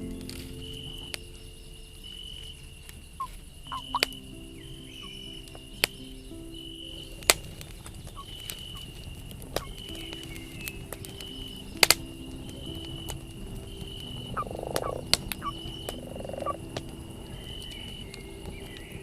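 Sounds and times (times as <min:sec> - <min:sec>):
campfire crackling: 0:00.0 - 0:19.0
low croaking calls: 0:00.0 - 0:19.0
soft background music: 0:00.0 - 0:19.0.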